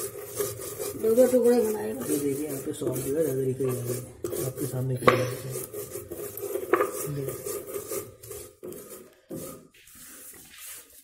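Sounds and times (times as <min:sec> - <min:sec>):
stone roller grinding seeds: 0:00.0 - 0:11.0.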